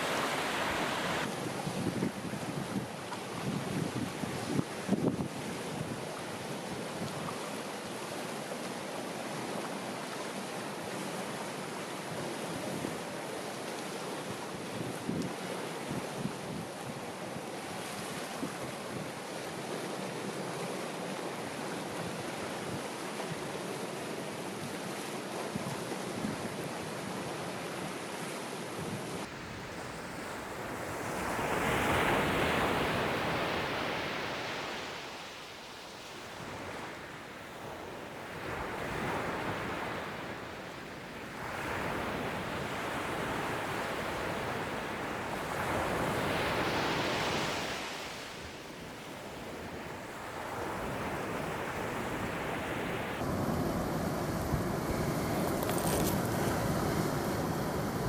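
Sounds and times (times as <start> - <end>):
ocean waves washing onto shore: 0.0 - 58.0.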